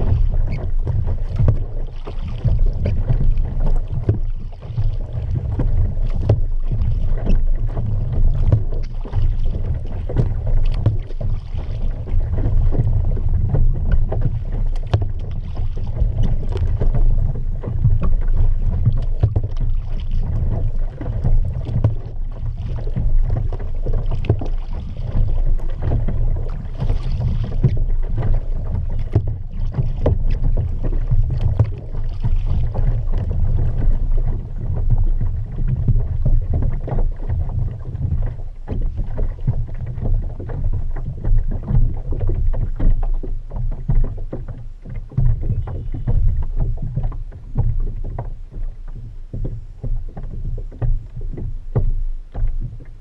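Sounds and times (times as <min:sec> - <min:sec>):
water splashing against hull: 0:00.0 - 0:53.0
wind rumble on microphone: 0:00.0 - 0:53.0.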